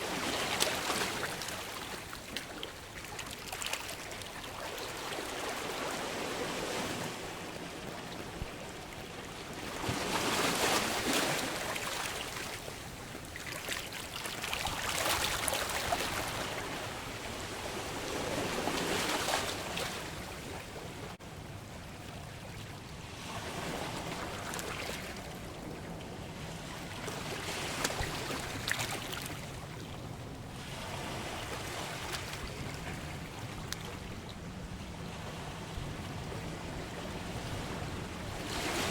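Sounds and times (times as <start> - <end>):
sea waves breaking on shore: 0.0 - 21.2, 21.8 - 38.9.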